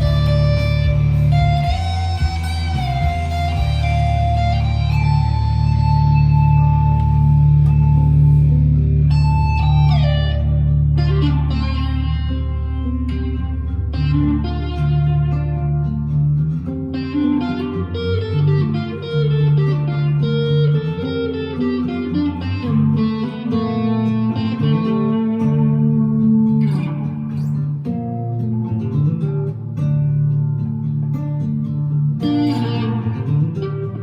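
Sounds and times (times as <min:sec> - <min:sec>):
overdriven electric guitar: 0:00.0 - 0:34.0.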